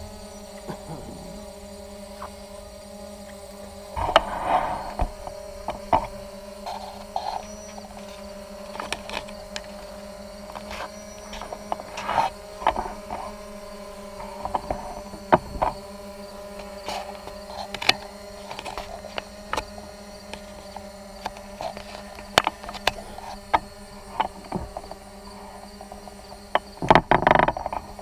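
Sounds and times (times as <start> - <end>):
quadcopter propellers humming: 0.0 - 28.0.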